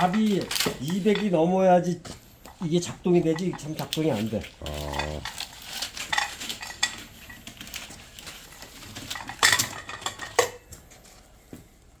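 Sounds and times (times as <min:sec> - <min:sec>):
hard objects clattering: 0:00.0 - 0:11.0.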